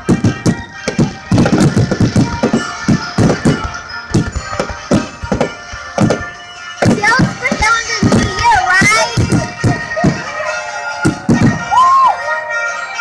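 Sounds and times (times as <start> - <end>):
fireworks bursting: 0.0 - 10.4, 11.0 - 11.8
music playing: 0.0 - 13.0.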